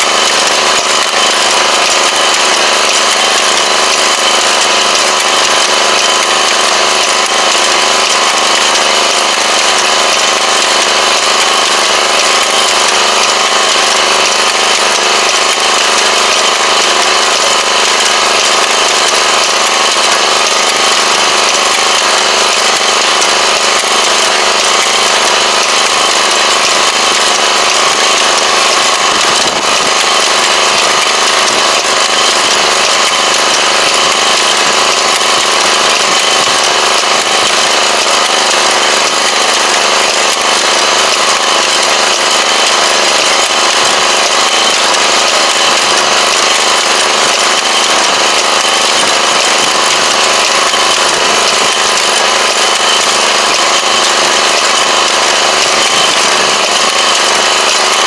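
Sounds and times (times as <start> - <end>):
small engine droning: 0.0 - 58.0.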